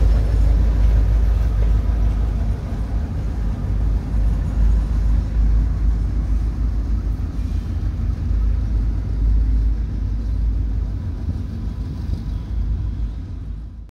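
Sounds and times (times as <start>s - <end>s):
diesel locomotives rumbling: 0.0s - 13.9s.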